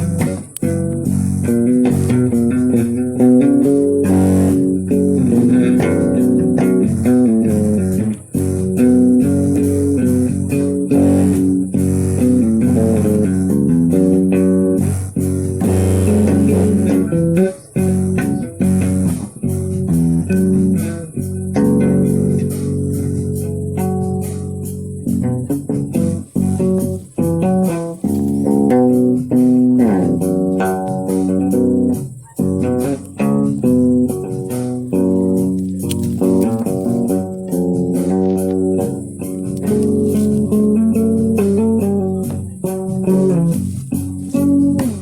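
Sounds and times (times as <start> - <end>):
bass notes: 0.0 - 45.0
plucked guitar music: 0.0 - 45.0.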